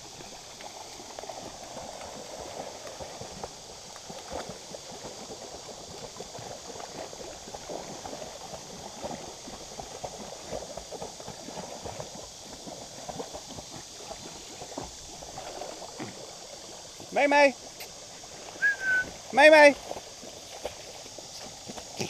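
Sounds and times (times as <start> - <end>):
river water rushing: 0.0 - 22.0
water sloshing and splashing: 0.0 - 22.0.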